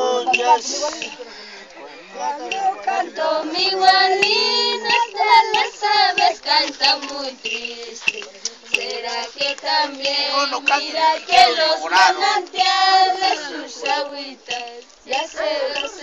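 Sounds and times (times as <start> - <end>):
women singing together: 2.2 - 16.0.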